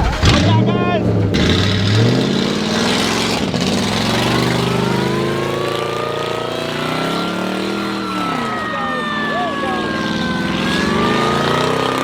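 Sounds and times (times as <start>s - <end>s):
spinning tyres hissing: 0.0s - 12.0s
truck engine revving: 0.0s - 12.0s.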